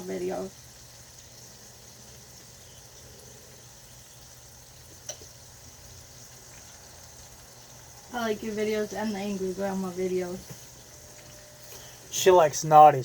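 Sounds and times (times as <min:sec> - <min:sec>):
kitchen hum and hiss: 0:00.0 - 0:13.0.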